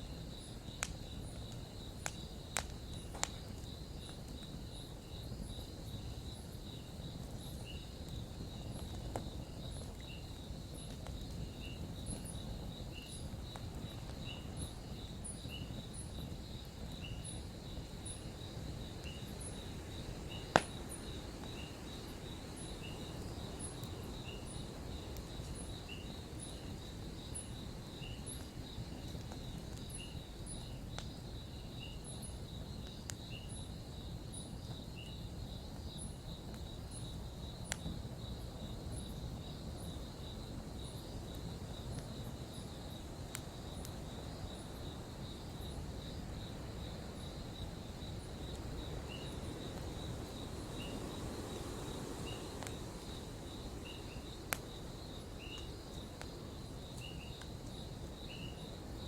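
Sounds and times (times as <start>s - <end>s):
campfire burning: 0.0s - 59.0s
fire popping: 0.1s - 44.6s, 46.9s - 58.1s.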